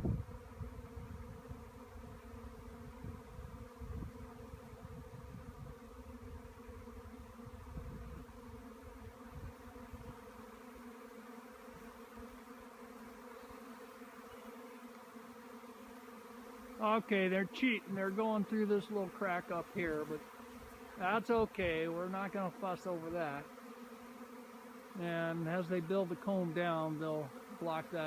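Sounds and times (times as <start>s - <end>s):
bee swarm humming: 0.0s - 28.0s.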